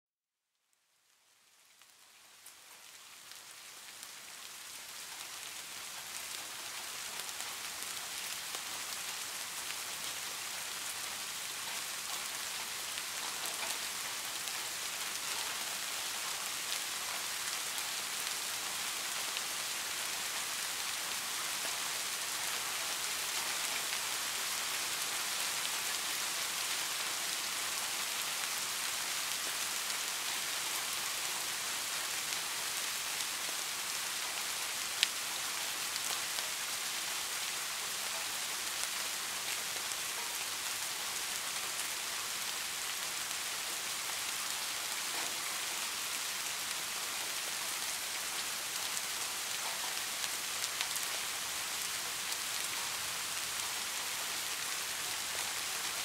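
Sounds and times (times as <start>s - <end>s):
steady rain falling: 0.6s - 56.0s.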